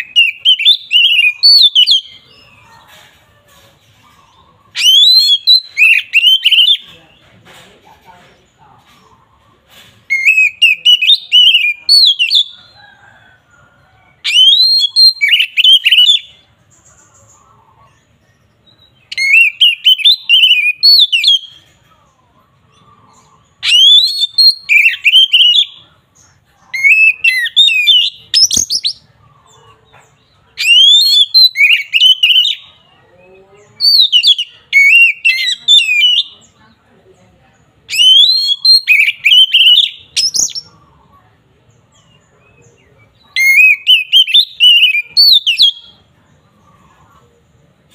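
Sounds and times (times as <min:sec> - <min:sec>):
bird singing whistles and chatters: 0:00.0 - 0:07.3, 0:08.0 - 0:21.9, 0:22.6 - 0:36.8, 0:37.6 - 0:47.9.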